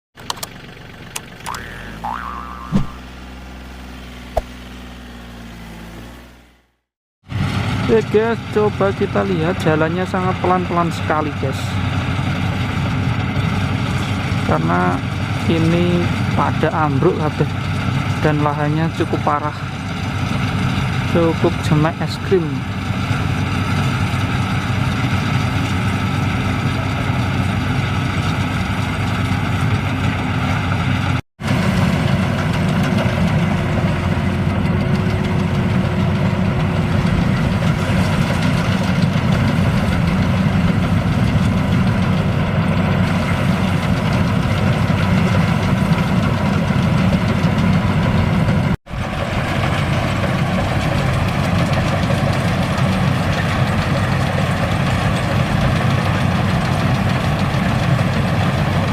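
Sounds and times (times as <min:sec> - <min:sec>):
combine harvester running: 0:00.2 - 0:58.9.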